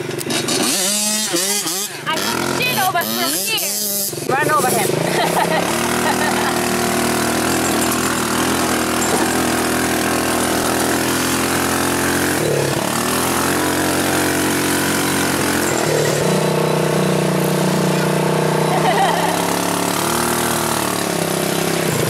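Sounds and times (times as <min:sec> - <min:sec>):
buggy engine running: 0:00.0 - 0:22.0.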